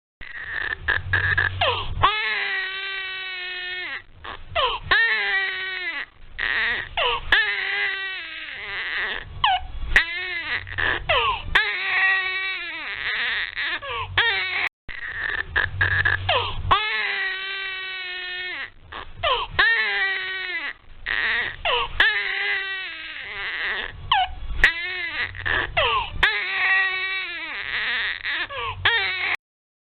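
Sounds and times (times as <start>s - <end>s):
baby crying hard: 0.2s - 29.4s.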